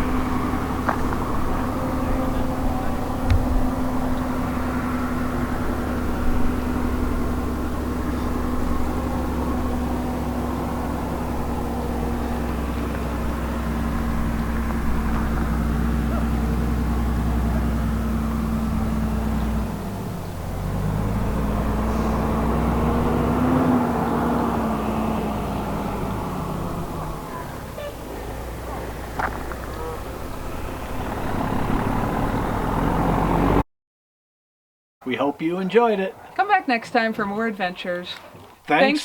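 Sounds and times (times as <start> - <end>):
vehicle engine running: 0.0 - 33.6.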